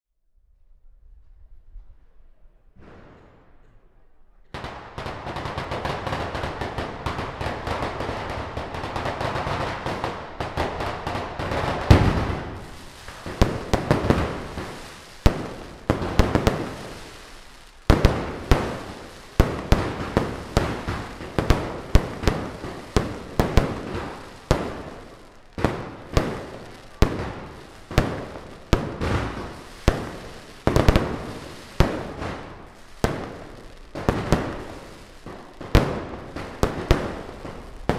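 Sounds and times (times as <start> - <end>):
firecracker bangs: 2.8 - 3.7, 4.6 - 37.9
firecrackers crackling: 4.6 - 37.9.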